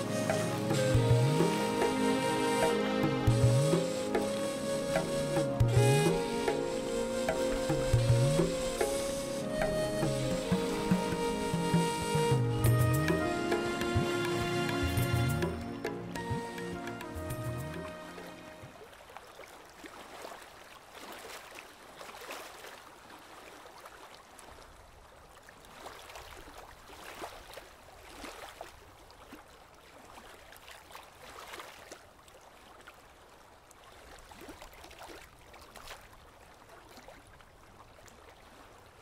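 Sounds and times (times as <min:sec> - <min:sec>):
water splashing and lapping: 0:00.0 - 0:39.0.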